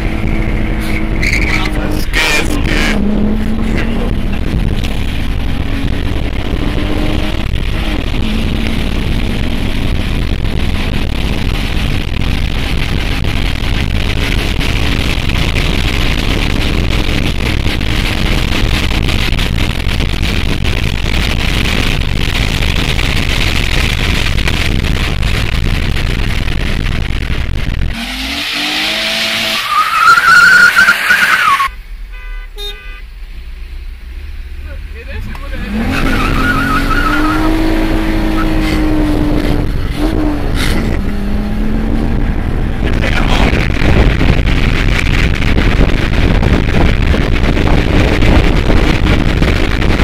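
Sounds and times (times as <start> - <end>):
car engine accelerating: 0.0 - 31.9, 33.3 - 50.0
road noise: 0.0 - 50.0.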